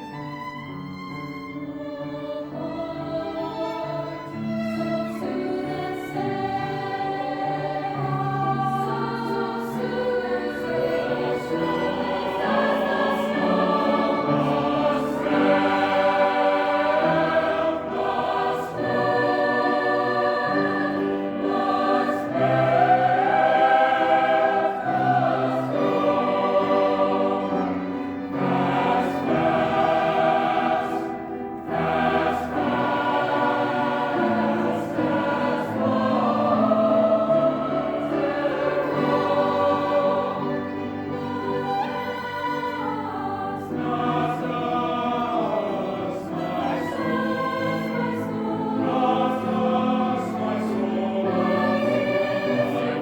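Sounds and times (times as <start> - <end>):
choir singing sustained chords: 0.0 - 53.0.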